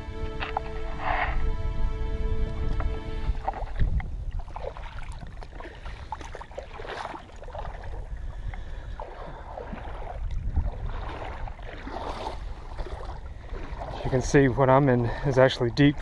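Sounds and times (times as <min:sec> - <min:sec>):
paddle splashing water: 0:00.0 - 0:16.0
wind rumble on microphone: 0:00.0 - 0:16.0.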